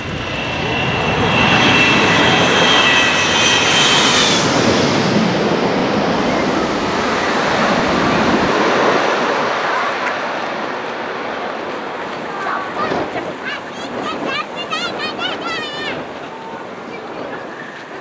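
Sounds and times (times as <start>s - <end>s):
high jet engine whine: 0.0s - 18.0s
jet airliner passing overhead: 0.0s - 18.0s.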